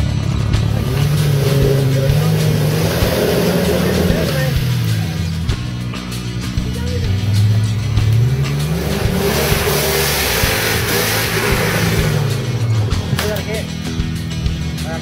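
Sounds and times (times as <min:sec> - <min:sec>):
engine revving hard: 0:00.0 - 0:14.4
dirt sprayed by spinning tyres: 0:00.0 - 0:14.6.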